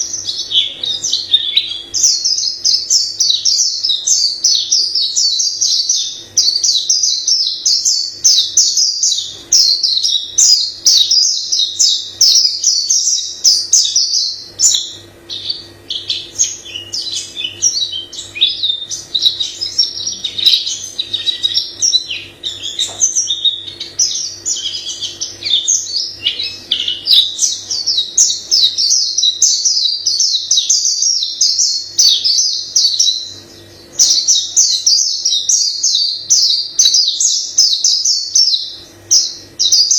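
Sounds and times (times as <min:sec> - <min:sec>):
faint low hum: 0:00.0 - 0:39.9
songbird twittering: 0:00.0 - 0:39.9.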